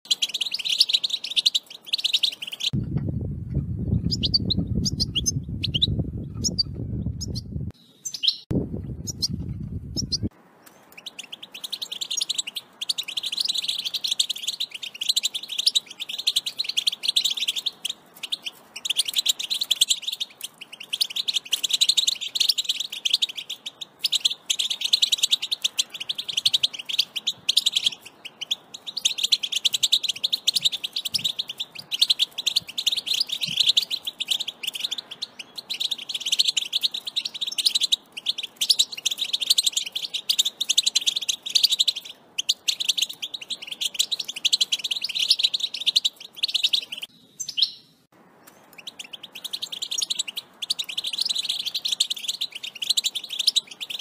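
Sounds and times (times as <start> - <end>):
goldfinch twittering song: 0.0 - 2.8, 3.9 - 54.0.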